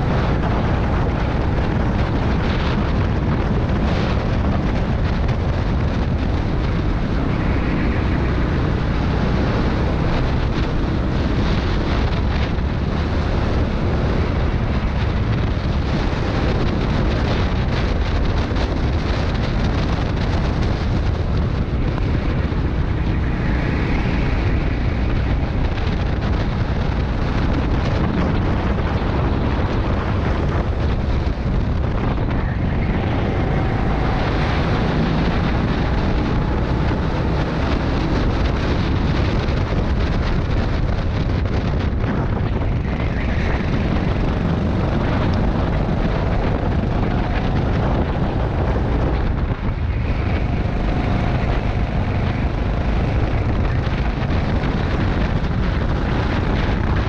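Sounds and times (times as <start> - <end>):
go-kart engine racing: 0.0 - 57.0
wind rush on microphone: 0.0 - 57.0.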